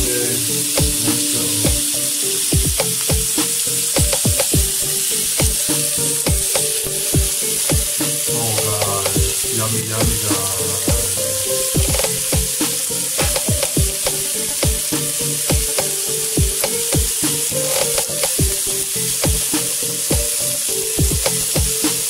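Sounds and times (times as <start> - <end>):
fat spitting and crackling: 0.0 - 22.0
meat sizzling in a grill pan: 0.0 - 22.0.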